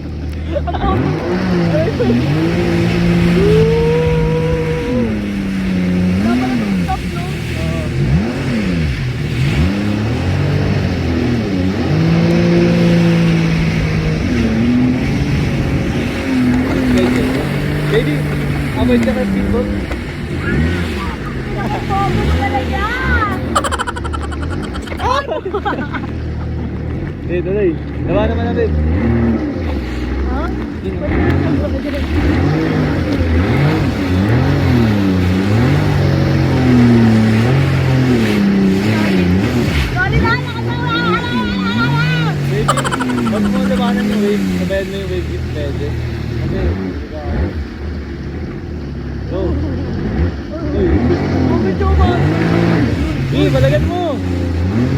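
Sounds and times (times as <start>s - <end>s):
jet ski engine running: 0.0s - 54.9s
rush of wind and water: 0.0s - 54.9s.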